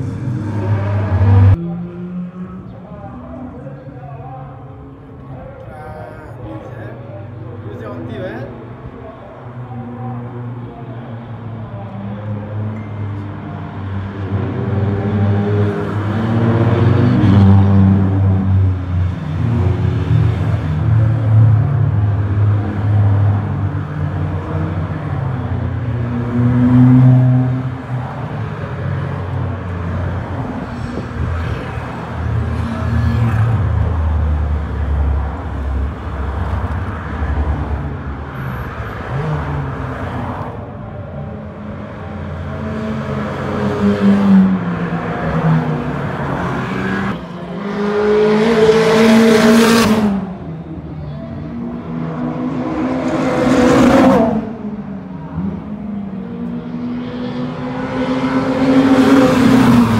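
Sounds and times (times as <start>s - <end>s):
sports cars passing by: 0.0s - 59.9s.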